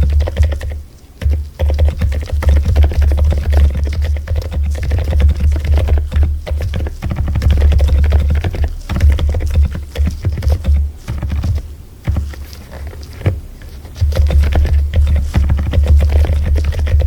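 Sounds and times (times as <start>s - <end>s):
typing on mechanical keyboard: 0.0s - 17.0s.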